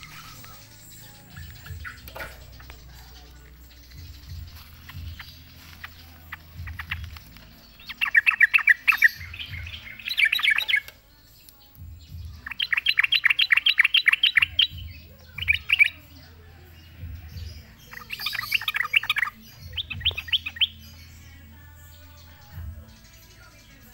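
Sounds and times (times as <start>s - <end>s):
bird singing rapid chattering notes: 0.0s - 23.9s.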